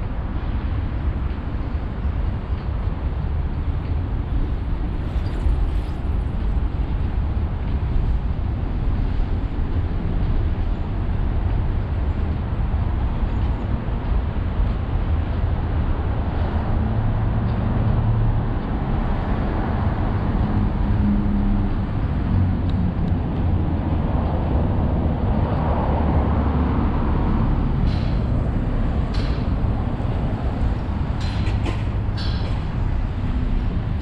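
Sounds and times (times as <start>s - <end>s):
dense traffic rumble: 0.0s - 34.0s.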